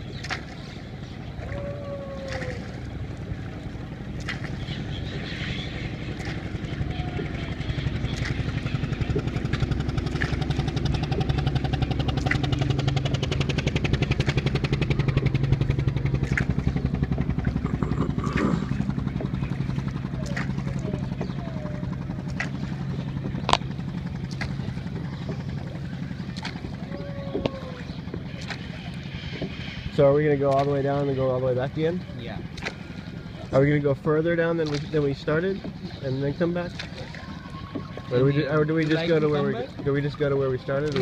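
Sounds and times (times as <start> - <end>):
motorboat engine running: 0.0 - 41.0.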